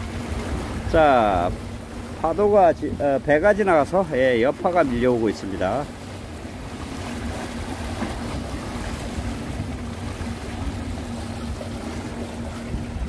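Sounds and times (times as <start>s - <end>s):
boat engine drone: 0.0s - 13.0s
wake washing against rocks: 0.0s - 13.0s.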